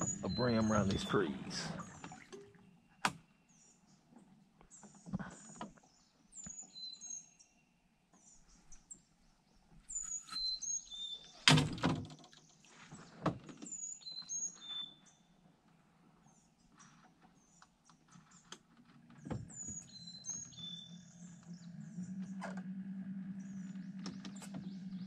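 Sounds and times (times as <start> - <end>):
small birds chirping: 0.0 - 11.5, 12.4 - 22.4, 23.2 - 25.0.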